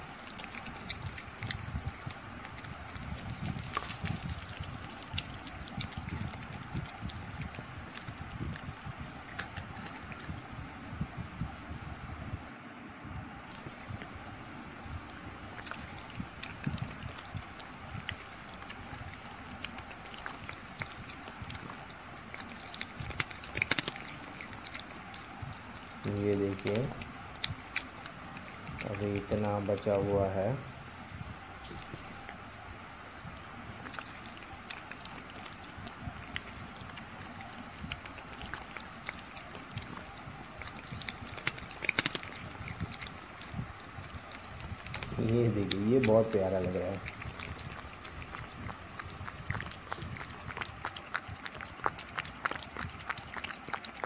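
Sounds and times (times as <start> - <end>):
kitten licking wet clicks: 0.0 - 11.5, 13.5 - 54.0.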